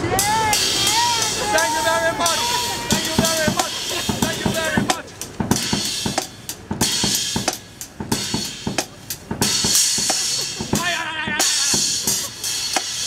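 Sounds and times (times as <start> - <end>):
drum kit beat: 0.0 - 13.0.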